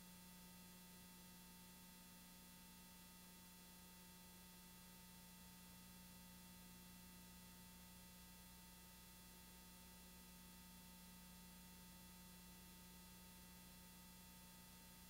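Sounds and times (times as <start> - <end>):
faint electrical hum with hiss: 0.0 - 15.0.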